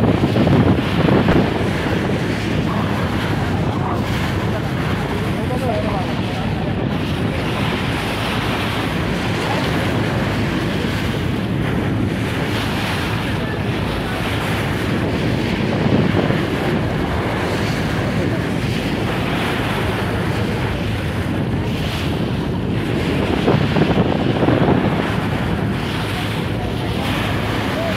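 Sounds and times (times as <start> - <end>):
river waves splashing against boat: 0.0 - 27.9
wind buffeting microphone: 0.0 - 27.9.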